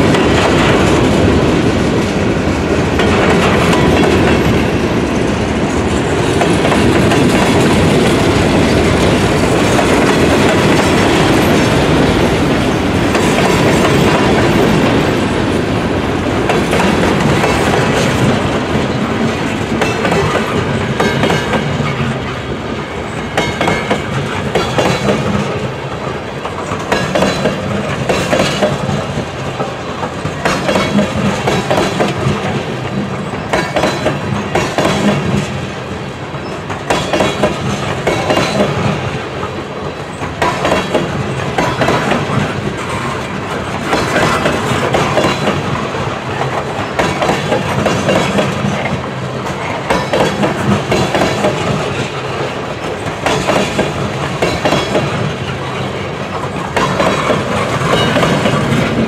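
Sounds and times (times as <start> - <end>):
clickety-clack over rail joints: 0.0 - 59.0
train wheels rumbling on rails: 0.0 - 59.0.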